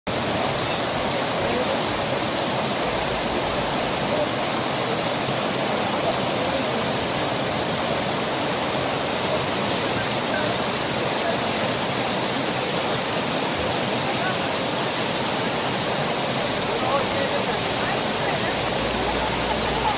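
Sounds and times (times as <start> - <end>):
waterfall rushing: 0.1 - 19.9.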